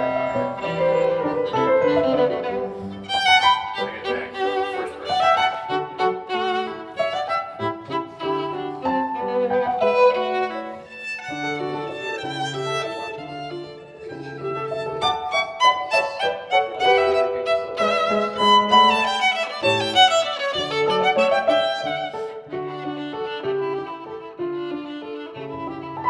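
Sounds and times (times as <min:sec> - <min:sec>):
lively violin melody: 0:00.0 - 0:26.0.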